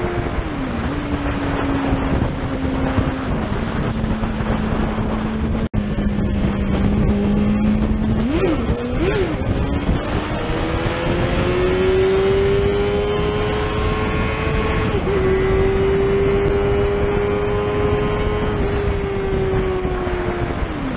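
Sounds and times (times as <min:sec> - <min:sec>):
heavy wind rush: 0:00.0 - 0:20.9
motorcycle engine cruising: 0:00.0 - 0:20.9.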